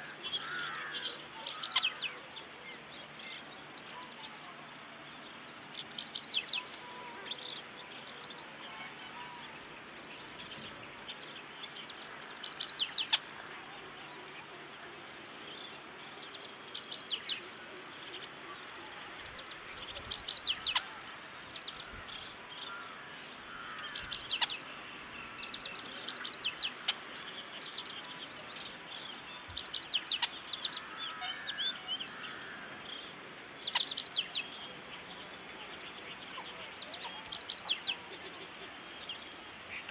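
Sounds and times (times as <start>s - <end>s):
small birds chirping: 0.0s - 39.9s
steady high hiss: 0.0s - 39.9s.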